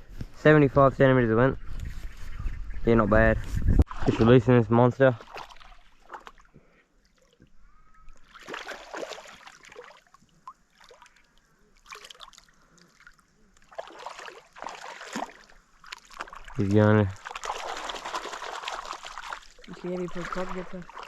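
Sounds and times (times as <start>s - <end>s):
water splashing and sloshing: 3.8s - 21.0s.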